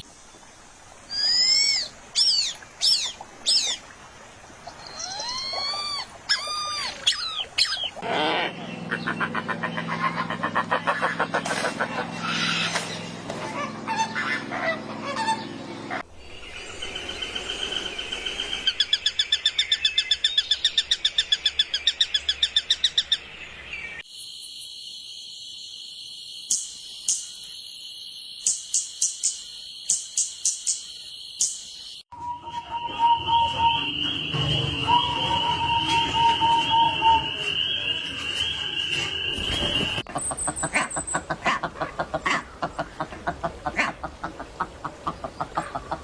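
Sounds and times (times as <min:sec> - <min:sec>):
birds calling: 0:04.7 - 0:24.1, 0:26.5 - 0:27.6, 0:28.4 - 0:32.1, 0:33.1 - 0:46.0.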